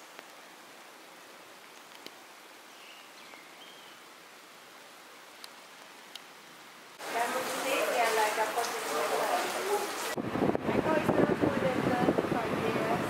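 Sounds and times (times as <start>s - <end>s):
soft outdoor hiss: 0.0s - 10.6s.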